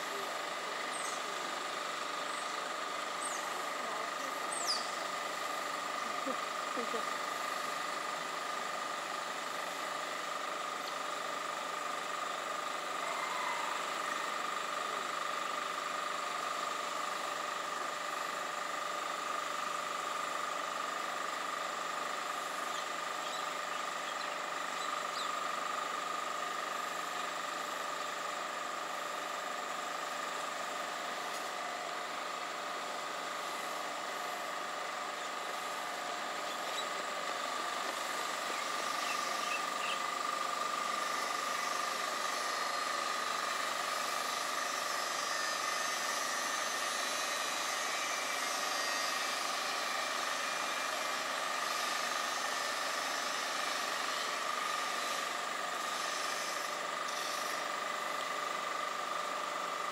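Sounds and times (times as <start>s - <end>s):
high steady hum: 0.0s - 59.9s.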